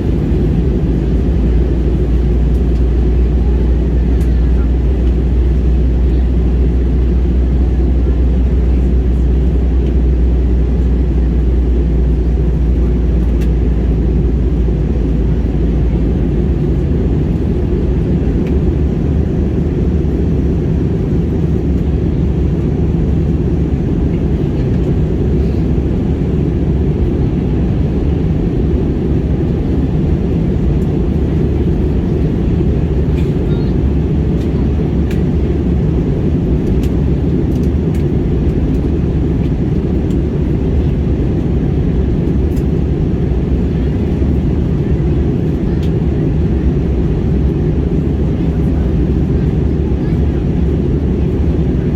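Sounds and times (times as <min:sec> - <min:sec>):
airliner cabin engine hum: 0:00.0 - 0:51.9.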